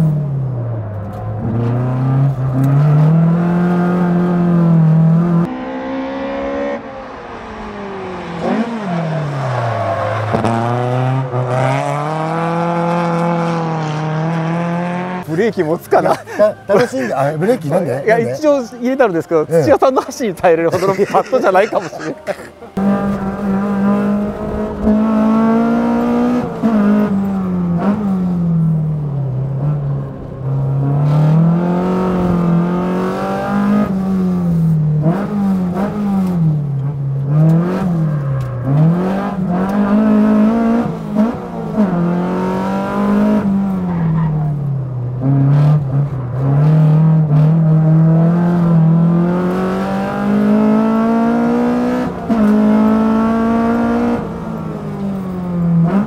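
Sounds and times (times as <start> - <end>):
car engine revving hard: 1.4 - 18.3, 22.7 - 28.6, 30.5 - 43.9, 45.2 - 56.0.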